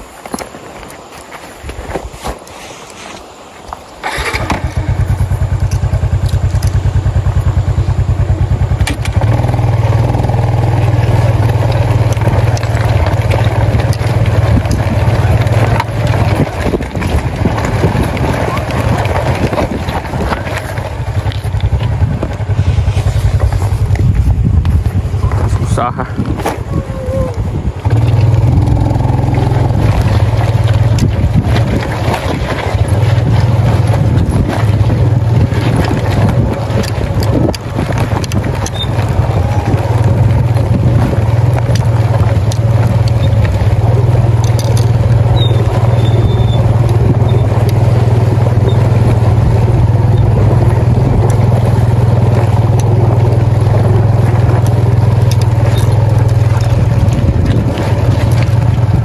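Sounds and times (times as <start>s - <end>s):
stones crunching under tyres: 0.0s - 59.0s
motorcycle engine running: 4.0s - 59.0s.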